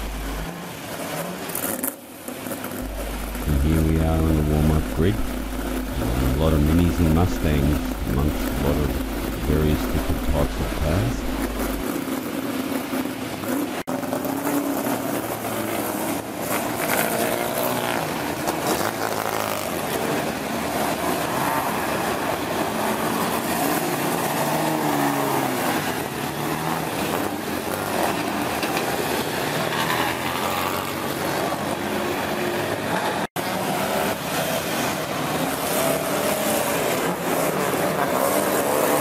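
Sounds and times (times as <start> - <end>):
car engines running: 0.0 - 39.0.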